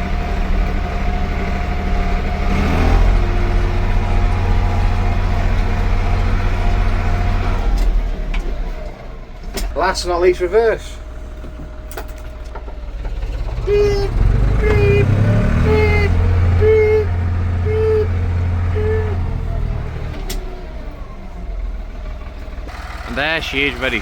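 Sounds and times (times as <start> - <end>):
tractor diesel engine: 0.0 - 24.0.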